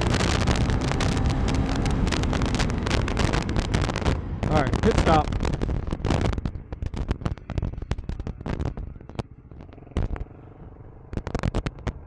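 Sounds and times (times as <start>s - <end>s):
motorcycle engine running low: 0.0s - 12.0s
sharp cracks and pops: 0.0s - 12.0s.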